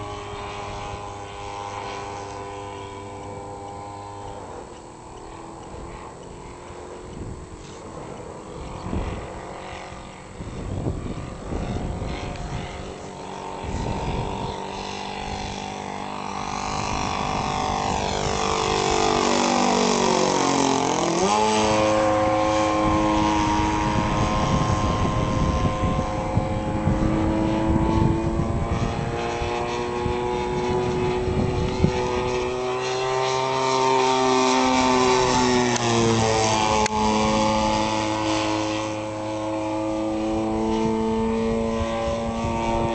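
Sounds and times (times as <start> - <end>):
propeller plane flying overhead: 0.0 - 42.9.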